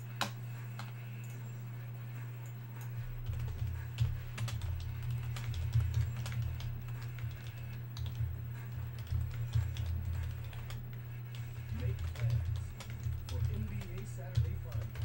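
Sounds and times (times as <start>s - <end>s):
low hum: 0.0s - 15.0s
keyboard typing: 2.4s - 15.0s.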